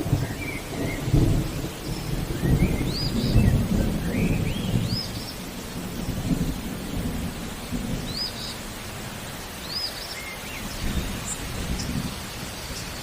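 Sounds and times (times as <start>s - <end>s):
thunder rumbling: 0.0s - 9.7s, 10.6s - 13.0s
songbird chirping: 0.0s - 13.0s
steady rain: 0.0s - 13.0s.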